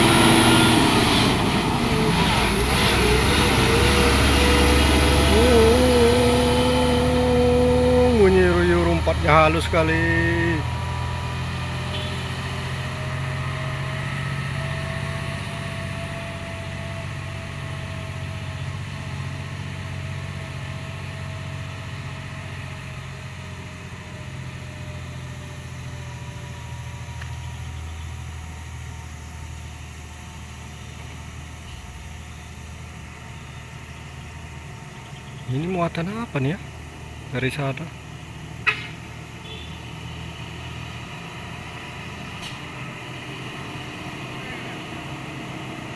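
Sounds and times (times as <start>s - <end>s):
diesel truck engine droning: 0.0s - 45.9s.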